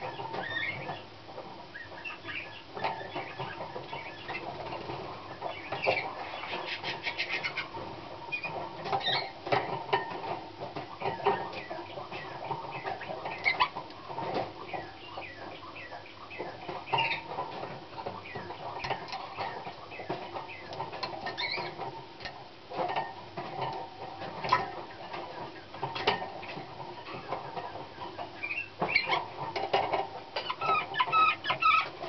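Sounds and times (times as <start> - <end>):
canary singing: 0.0 - 1.1, 1.7 - 10.2, 10.9 - 21.9, 24.4 - 29.5, 30.4 - 32.0.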